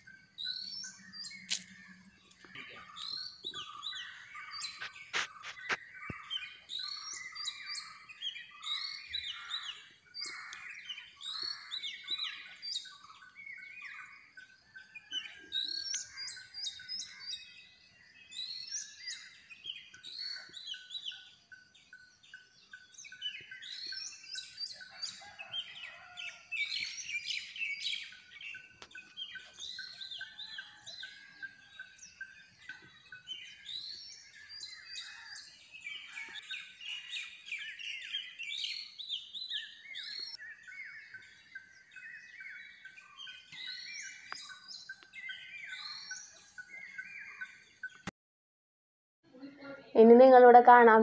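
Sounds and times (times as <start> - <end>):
chorus of birds chirping: 0.0 - 48.1, 49.3 - 51.0.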